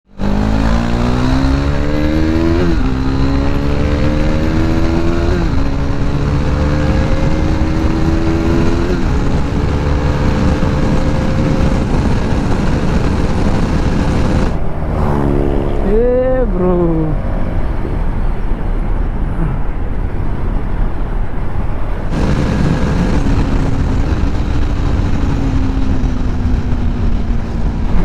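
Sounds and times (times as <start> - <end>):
motorcycle engine accelerating: 0.1 - 16.9, 22.1 - 28.0.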